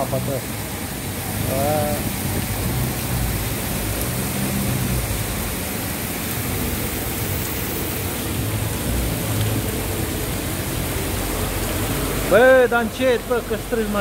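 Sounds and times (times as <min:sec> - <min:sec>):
floodwater rushing: 0:00.0 - 0:14.0
heavy rain pouring: 0:00.0 - 0:14.0.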